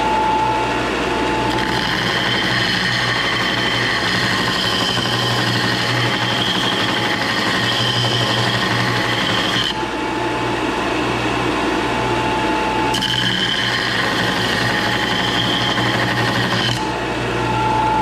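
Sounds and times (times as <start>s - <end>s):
power tool motor whine: 0.0s - 10.2s, 12.2s - 18.0s.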